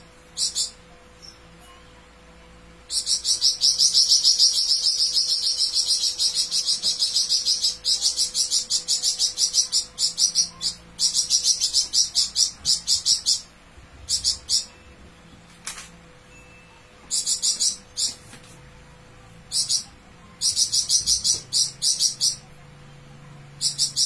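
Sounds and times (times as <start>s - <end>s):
songbird high-pitched trill: 0.0s - 15.3s, 16.2s - 18.2s, 19.3s - 22.6s.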